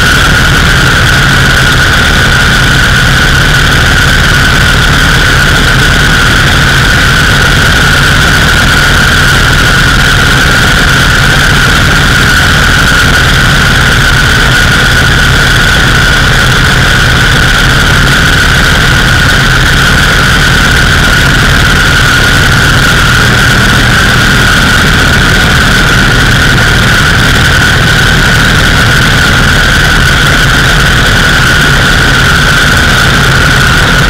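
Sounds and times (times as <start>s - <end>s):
high-pitched whine: 0.0s - 34.0s
motorcycle engine running: 0.0s - 34.0s
wind noise rushing: 0.0s - 34.0s.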